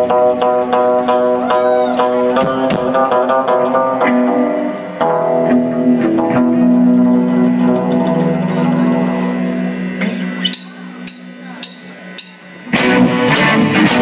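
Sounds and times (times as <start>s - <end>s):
bass guitar: 0.0s - 14.0s
drums: 0.0s - 14.0s
electric guitars: 0.0s - 14.0s.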